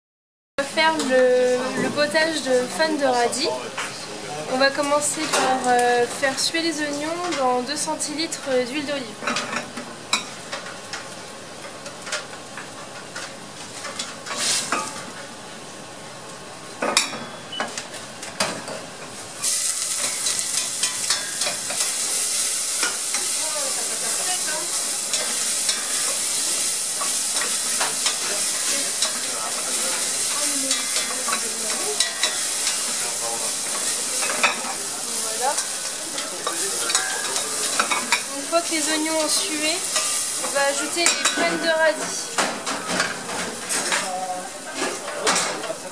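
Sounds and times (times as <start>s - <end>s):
onions sizzling in hot oil: 0.7s - 45.9s.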